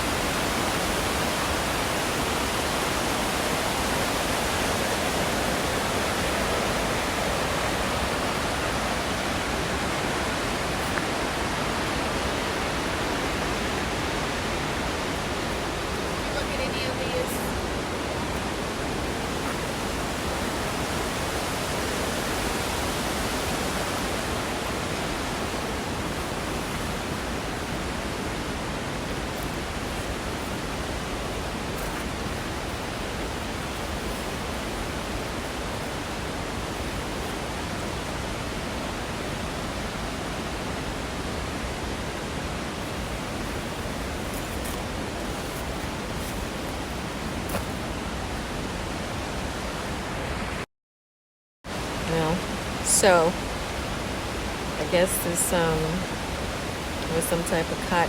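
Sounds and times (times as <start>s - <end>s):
waterfall rushing: 0.0s - 50.6s, 51.7s - 58.0s.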